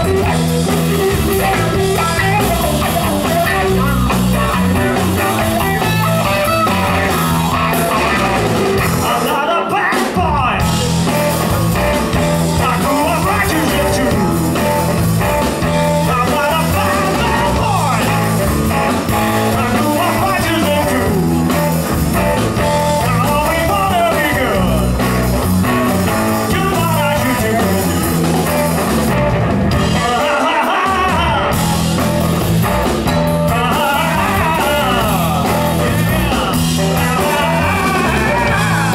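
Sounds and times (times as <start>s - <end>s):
blues-rock band playing: 0.0s - 38.9s
electric guitar lead lines: 0.0s - 38.9s.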